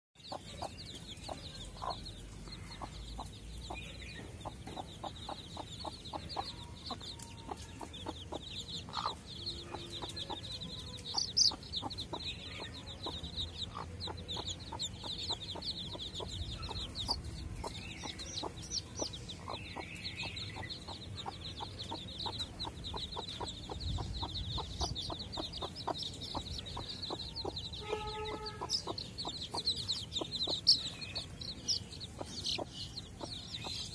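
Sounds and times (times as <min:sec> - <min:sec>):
chicks peeping: 0:00.2 - 0:33.9
hen clucking: 0:01.3 - 0:33.9.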